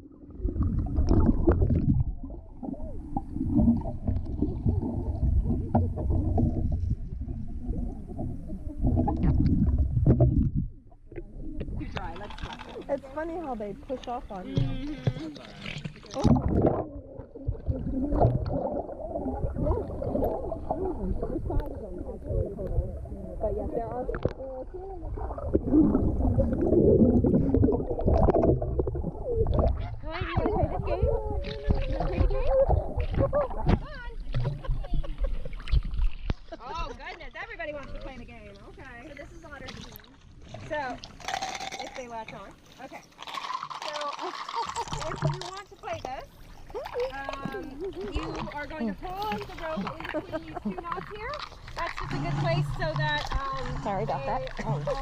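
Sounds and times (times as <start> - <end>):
pool water sloshing and splashing: 0.0 - 55.0.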